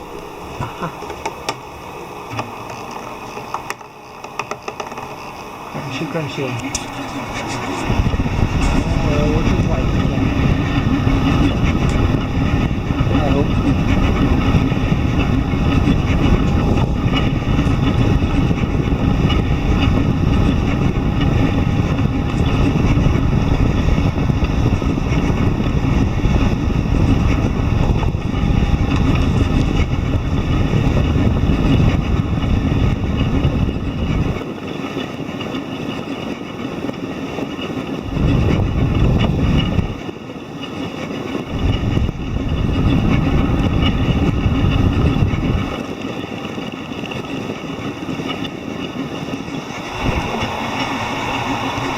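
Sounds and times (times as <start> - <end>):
printer stepper motors humming: 0.0 - 51.9.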